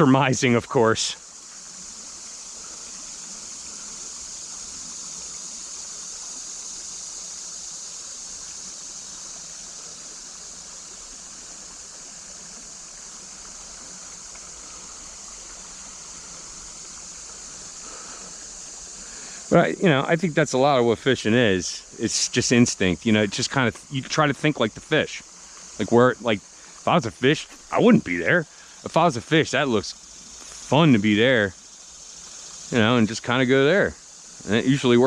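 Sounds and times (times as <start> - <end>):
cicadas droning: 0.0 - 35.0
creek water rushing over rocks: 0.0 - 35.0.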